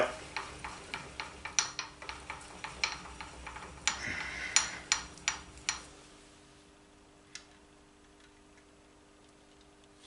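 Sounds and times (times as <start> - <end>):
milling spindle humming: 0.0 - 10.0.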